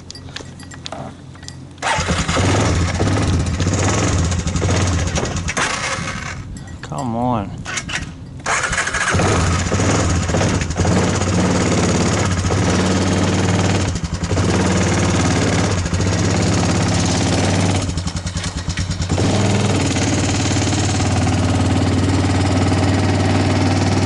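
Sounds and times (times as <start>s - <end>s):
car engine starting and running: 1.8s - 6.5s, 7.7s - 24.0s.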